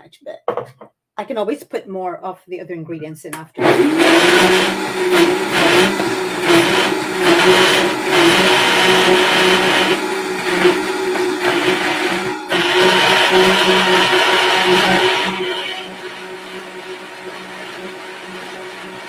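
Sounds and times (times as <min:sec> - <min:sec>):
blender whirring: 0:03.6 - 0:19.0.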